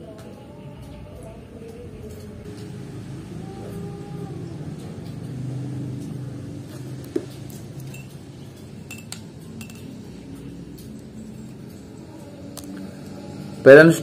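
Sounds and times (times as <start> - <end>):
low background drone: 0.0 - 14.0.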